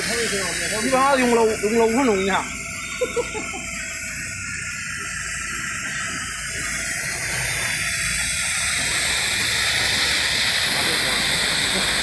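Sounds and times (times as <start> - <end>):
pneumatic oil extractor hissing: 0.0 - 12.0.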